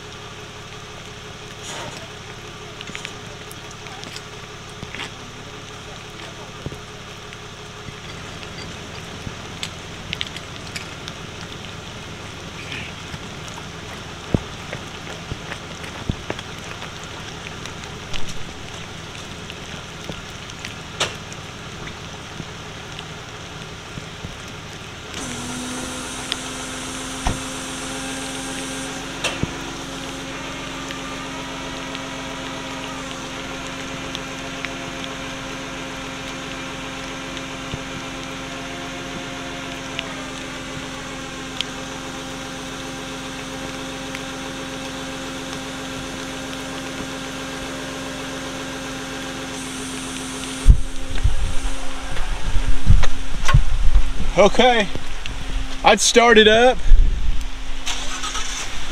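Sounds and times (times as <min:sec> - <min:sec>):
rain falling: 0:00.0 - 0:58.9
steady droning hum: 0:00.0 - 0:58.9
vehicle idling: 0:00.0 - 0:58.9.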